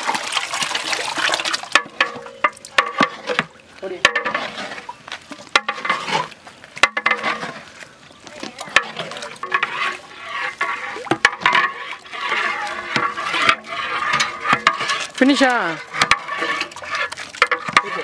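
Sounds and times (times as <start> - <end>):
ladle stirring eggs in pot: 0.0 - 18.0.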